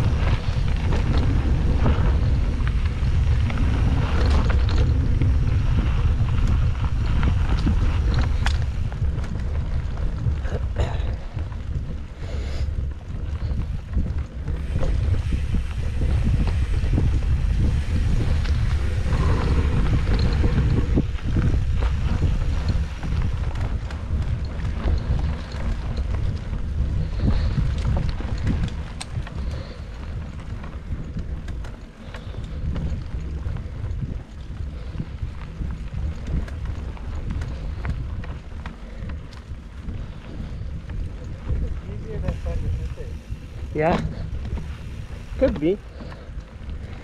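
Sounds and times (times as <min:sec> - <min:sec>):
bike clicks and rattles: 0:00.0 - 0:47.0
bike tyres rolling on dirt: 0:00.0 - 0:47.0
wind buffeting microphone: 0:00.0 - 0:47.0.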